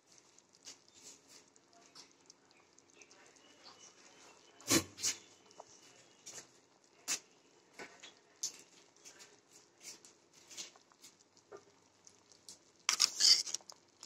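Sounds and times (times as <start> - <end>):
gravy bubbling in a pot: 0.0 - 14.0.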